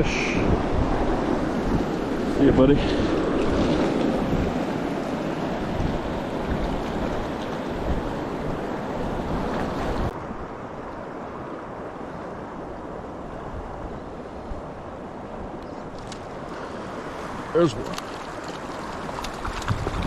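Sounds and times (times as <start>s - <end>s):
flowing river water: 0.0s - 20.0s.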